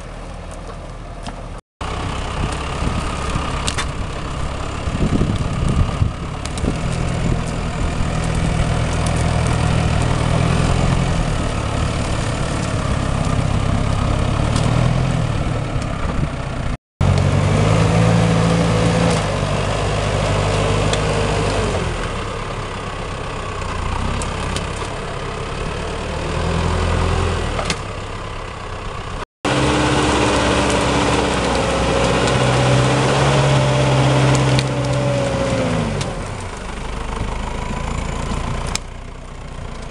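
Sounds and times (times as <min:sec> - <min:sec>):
tractor diesel engine working: 0:00.0 - 0:39.9.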